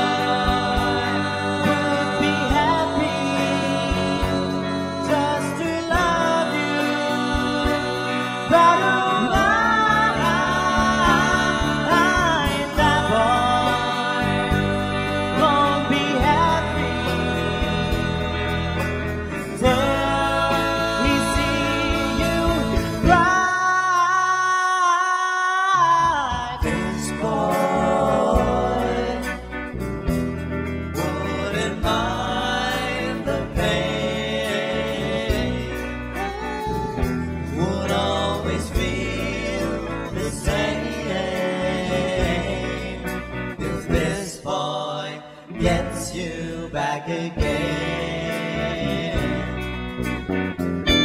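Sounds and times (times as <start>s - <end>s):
drum kit: 0.0s - 24.2s, 26.5s - 44.3s, 47.4s - 51.0s
electric bass: 0.0s - 24.2s, 25.8s - 44.9s, 45.5s - 51.0s
electric guitars: 0.0s - 51.0s
person singing lead vocals: 0.0s - 51.0s.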